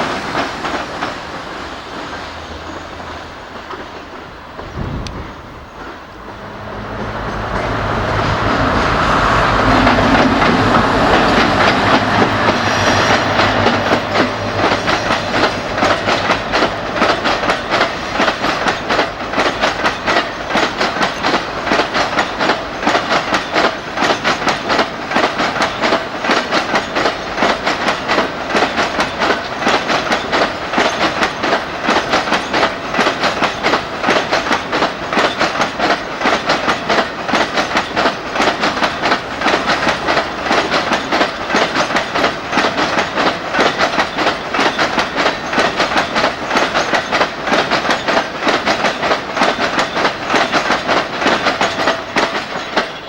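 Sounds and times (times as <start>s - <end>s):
diesel locomotive engine: 0.0s - 53.0s
freight wagon wheels clattering: 7.0s - 53.0s.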